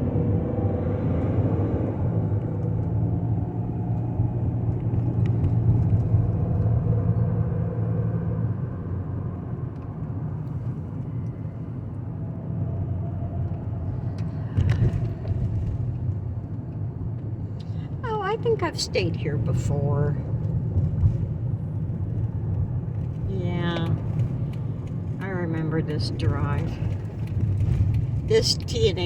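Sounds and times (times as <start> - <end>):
van engine and road rumble: 0.0 - 29.0.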